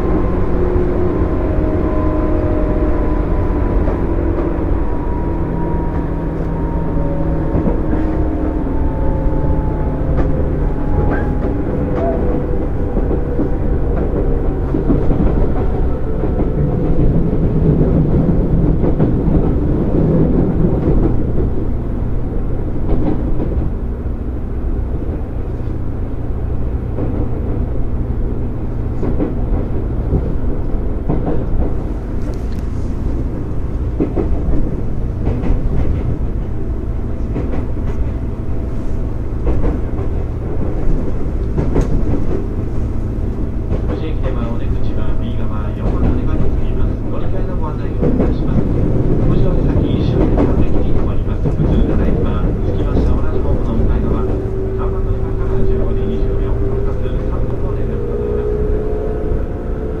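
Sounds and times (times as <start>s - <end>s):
train rolling rumble: 0.0s - 60.0s.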